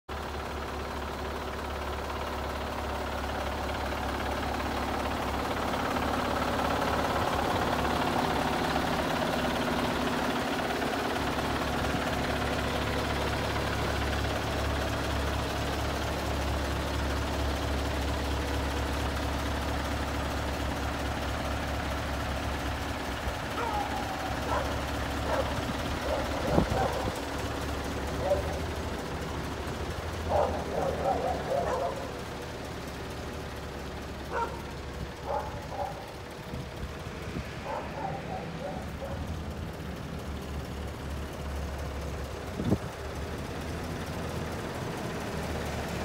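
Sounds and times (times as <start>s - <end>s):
diesel truck engine idling: 0.1s - 46.0s.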